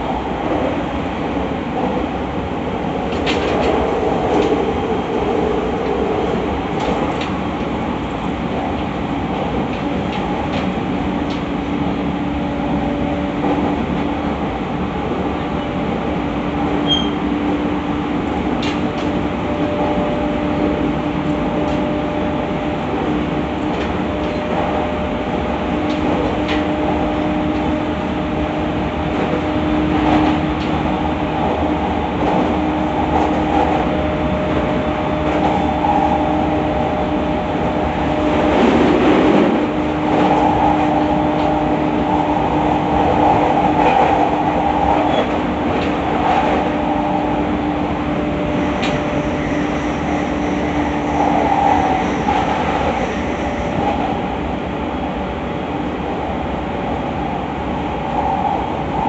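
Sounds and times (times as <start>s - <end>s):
steady train hum: 0.0s - 59.0s
train wheels rumbling on rail: 0.0s - 59.0s.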